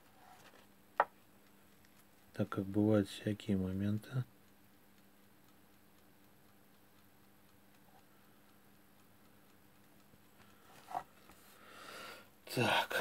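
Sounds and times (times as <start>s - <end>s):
faint steady hum: 0.0s - 13.0s
mechanical watch ticking: 0.2s - 13.0s.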